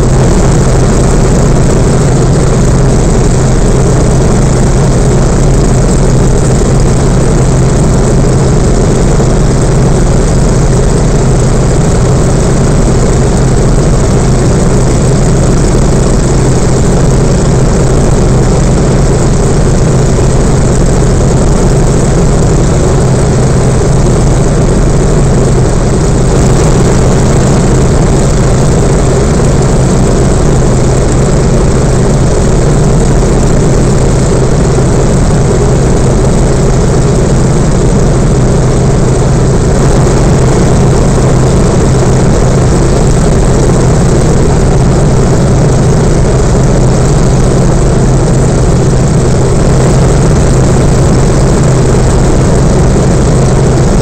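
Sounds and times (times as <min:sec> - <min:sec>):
radial aircraft engine and propeller: 0:00.0 - 0:54.0.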